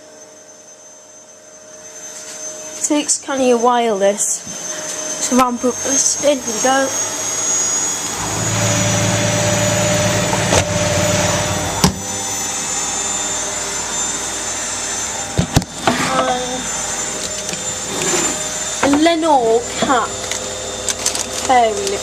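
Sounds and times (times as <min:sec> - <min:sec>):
washing machine motor humming: 0:03.2 - 0:22.0.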